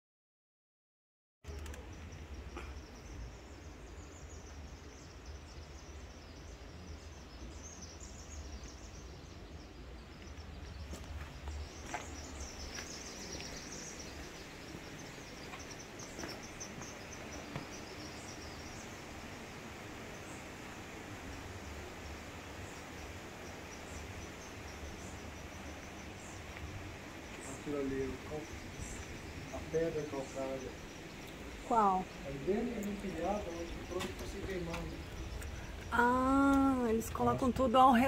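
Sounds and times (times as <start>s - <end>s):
steady hiss: 1.5s - 37.0s
high flickering chirping: 1.5s - 38.0s.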